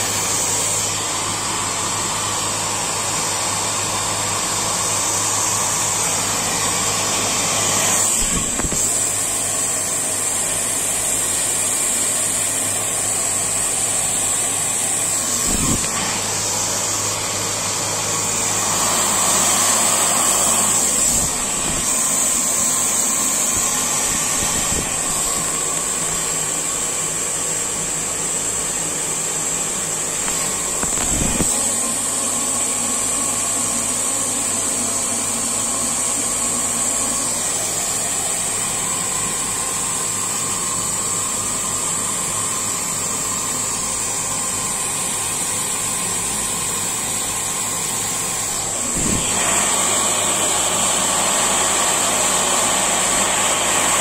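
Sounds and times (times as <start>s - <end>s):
machine whirring hiss: 0.0s - 54.0s.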